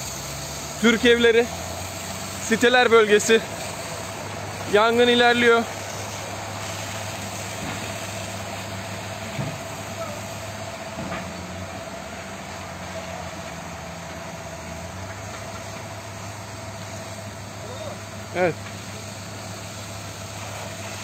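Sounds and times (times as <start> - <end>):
engine humming: 0.0 - 21.0
water spraying from fire hose: 0.0 - 21.0.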